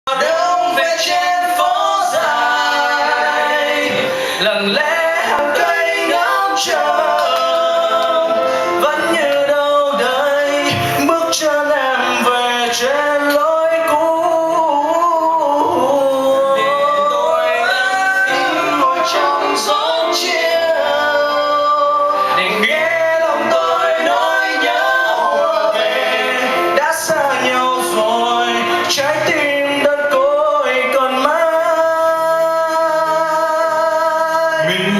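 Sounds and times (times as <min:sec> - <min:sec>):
instrumental accompaniment: 0:00.1 - 0:34.9
man and woman singing: 0:00.1 - 0:34.9.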